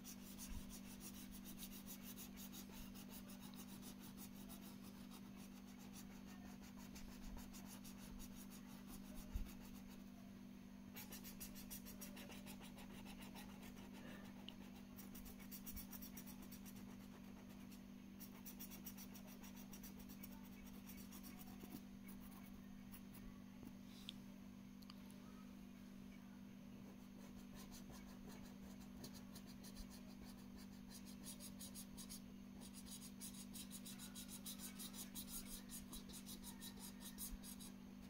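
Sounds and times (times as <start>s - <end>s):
pen scratching on paper: 0.0s - 9.9s, 11.0s - 22.5s, 27.2s - 37.7s
steady low hum: 0.0s - 38.0s.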